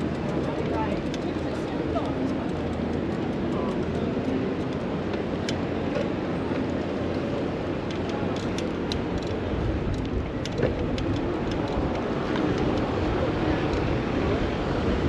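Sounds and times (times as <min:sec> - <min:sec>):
bicycle clicks and ticks: 0:00.0 - 0:15.0
city traffic rumble: 0:00.0 - 0:15.0.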